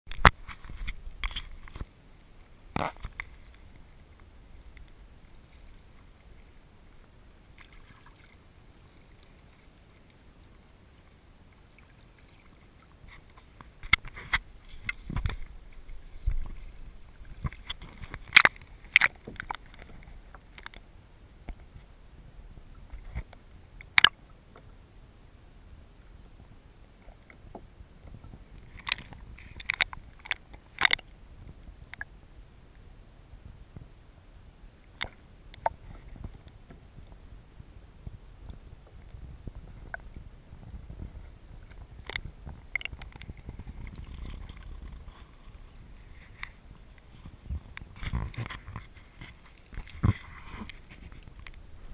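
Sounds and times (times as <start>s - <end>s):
waves lapping against kayak: 0.1s - 51.9s.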